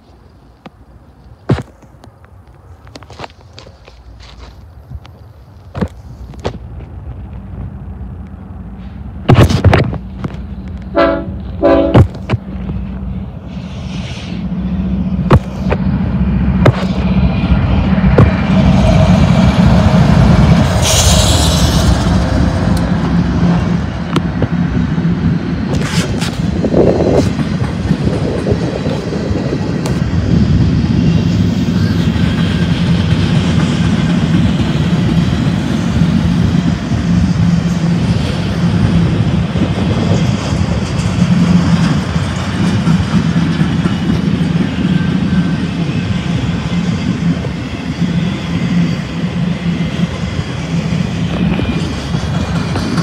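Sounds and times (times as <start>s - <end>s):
diesel locomotive passing: 0.0s - 53.0s
train wheels rumbling on rail: 0.0s - 53.0s.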